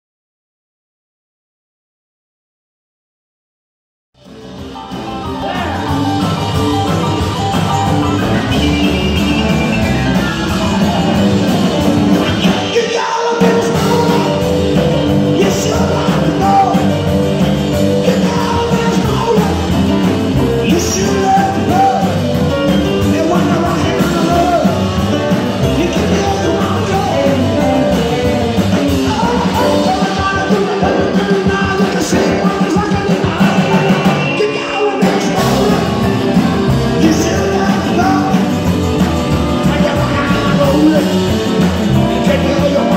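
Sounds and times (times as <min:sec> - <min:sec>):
rock and roll band playing: 0:04.2 - 0:42.9
man singing: 0:07.1 - 0:42.9.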